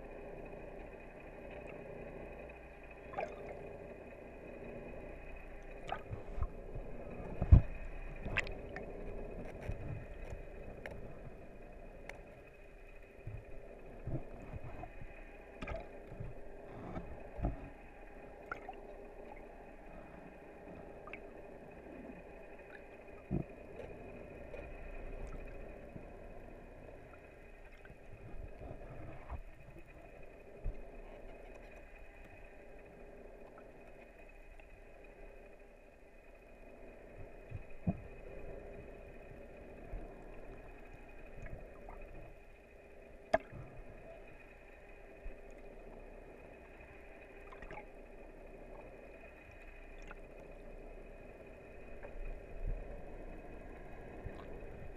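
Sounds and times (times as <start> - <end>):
muffled underwater hum: 0.0 - 54.9.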